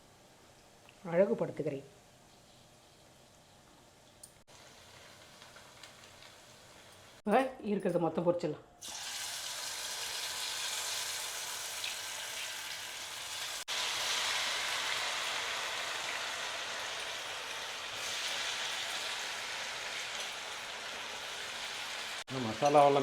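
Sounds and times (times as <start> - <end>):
deep-frying in hot oil: 0.0 - 7.2, 8.8 - 23.0.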